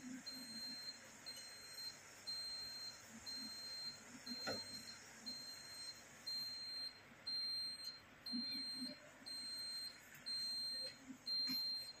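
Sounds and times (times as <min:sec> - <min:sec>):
electronic alarm beeping: 0:00.0 - 0:12.0.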